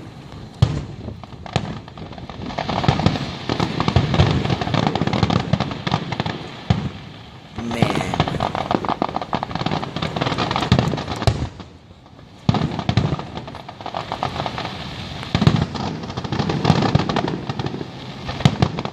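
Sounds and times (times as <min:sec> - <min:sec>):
fireworks crackling and booming: 0:00.0 - 0:18.9.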